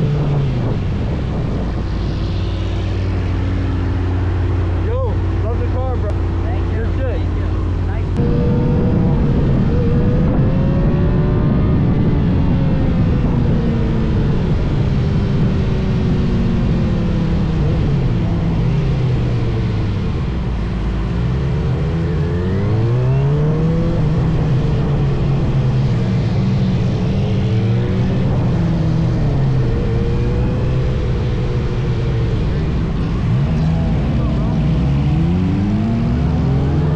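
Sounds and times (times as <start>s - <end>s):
vehicle engine revving: 0.0s - 36.9s
wind noise rumble: 0.0s - 36.9s.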